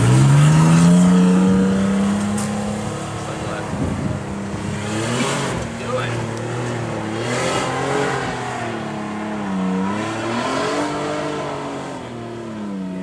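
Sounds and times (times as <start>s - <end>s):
pickup engine revving under load: 0.0s - 13.0s.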